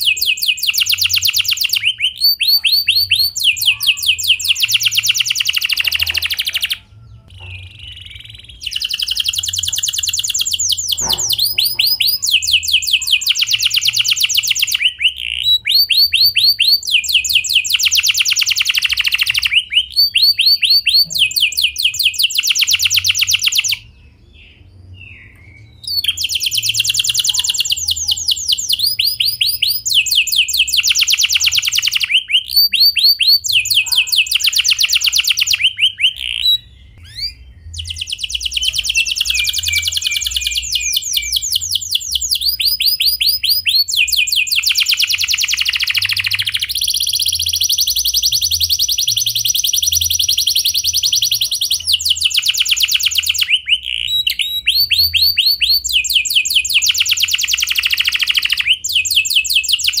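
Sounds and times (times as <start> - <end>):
canary singing trills: 0.0 - 60.0.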